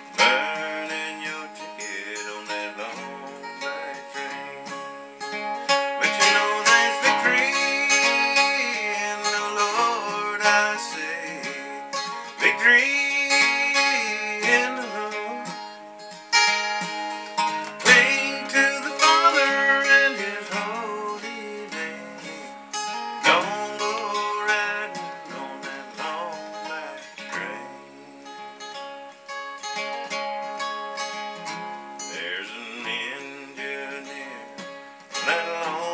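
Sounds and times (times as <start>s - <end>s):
acoustic guitar playing: 0.0s - 35.9s.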